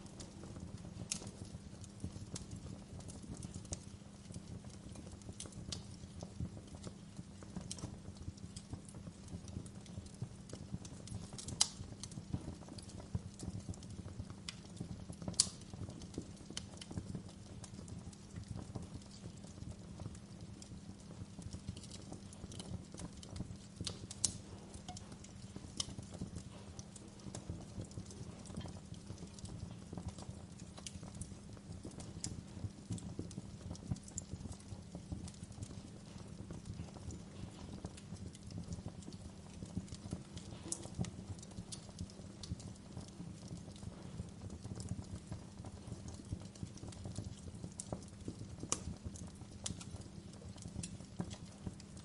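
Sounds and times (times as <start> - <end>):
fire crackling: 0.0 - 52.0
low rumble of flame: 0.0 - 52.0.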